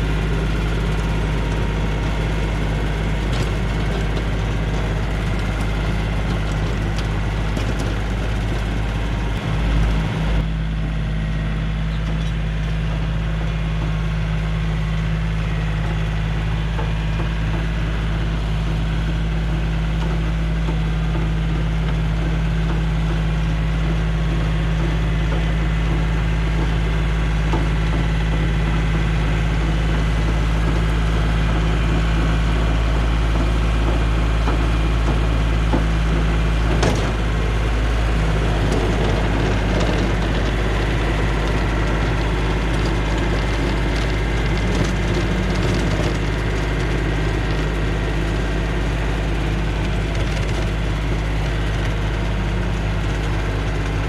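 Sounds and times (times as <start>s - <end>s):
diesel tractor running: 0.0s - 54.0s
rototiller churning soil: 0.0s - 54.0s.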